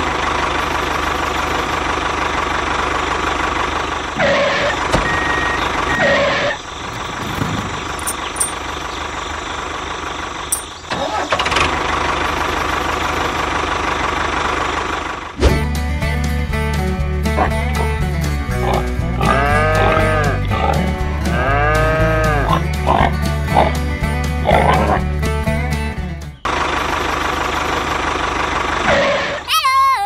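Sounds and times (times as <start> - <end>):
tractor engine idling: 0.0 - 28.9.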